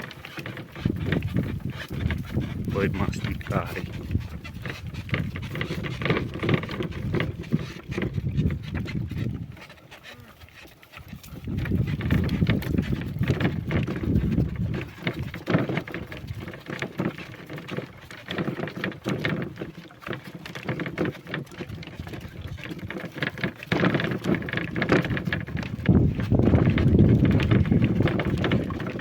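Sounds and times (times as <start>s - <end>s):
cart wheels rumbling: 0.0s - 29.0s
wooden cart knocks and rattles: 0.0s - 29.0s.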